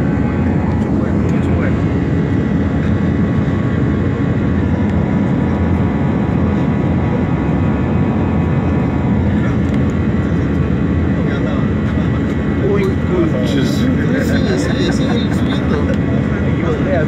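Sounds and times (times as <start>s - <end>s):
jet engine and air drone: 0.0s - 17.0s.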